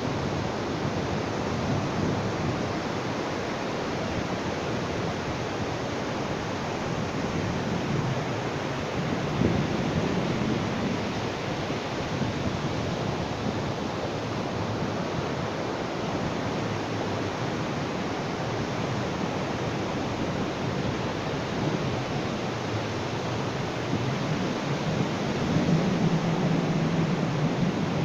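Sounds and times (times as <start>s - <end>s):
sea waves washing onto beach: 0.0s - 28.0s.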